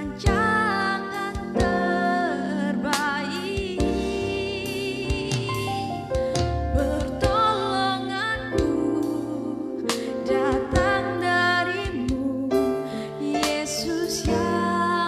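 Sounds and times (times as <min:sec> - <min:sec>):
woman singing with vibrato: 0:00.0 - 0:05.7, 0:06.7 - 0:15.0
digital piano chords: 0:00.0 - 0:15.0.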